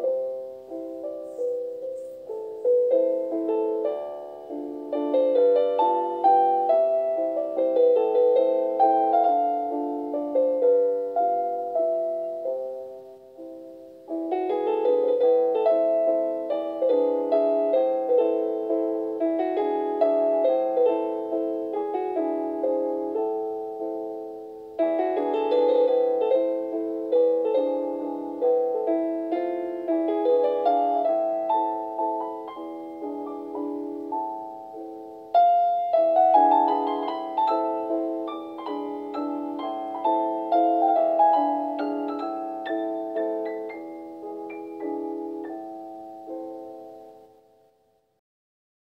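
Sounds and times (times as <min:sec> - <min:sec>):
calm piano music: 0:00.0 - 0:48.2.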